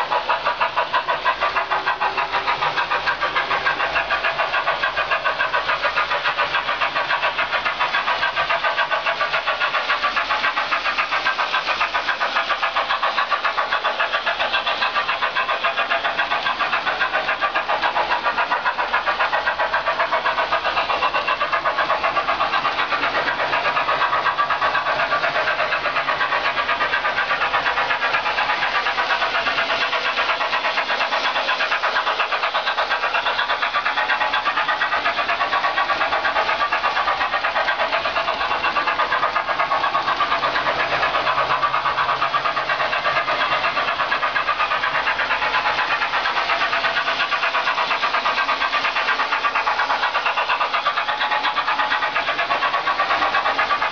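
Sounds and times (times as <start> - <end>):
model steam locomotive sound effects: 0.0 - 53.9
small motor and wheel noise: 0.0 - 53.9.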